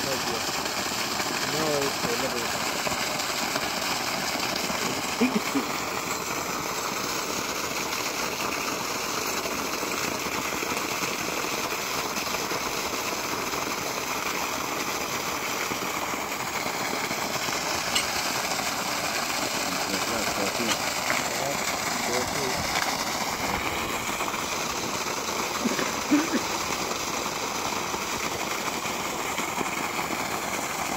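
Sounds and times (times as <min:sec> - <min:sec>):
water jetting and splashing: 0:00.0 - 0:30.9.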